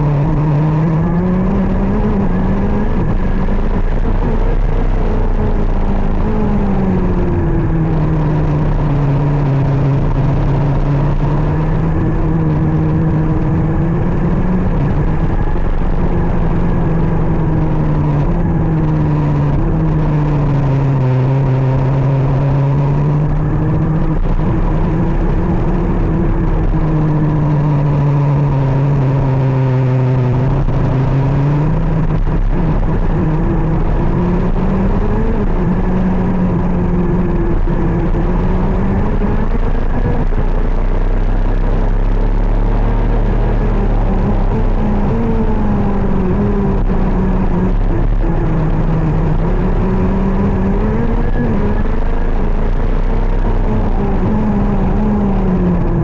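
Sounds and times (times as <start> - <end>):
kart engine at racing speed: 0.0 - 56.0.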